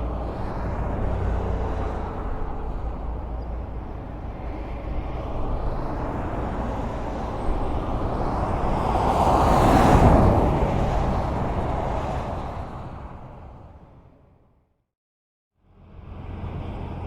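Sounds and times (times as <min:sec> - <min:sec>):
vehicle approaching: 0:00.0 - 0:14.5, 0:15.7 - 0:17.0
rumble of passing cars: 0:00.0 - 0:14.8, 0:15.6 - 0:17.0.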